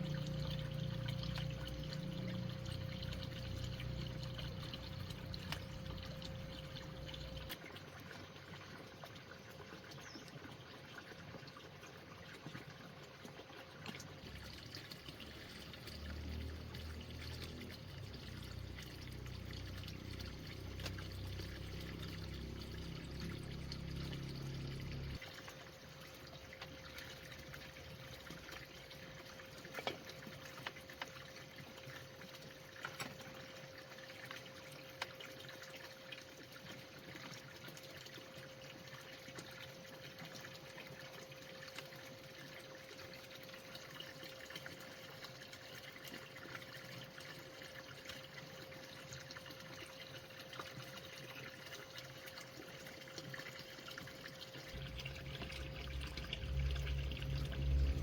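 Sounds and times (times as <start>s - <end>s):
water pouring and trickling: 0.0s - 58.0s.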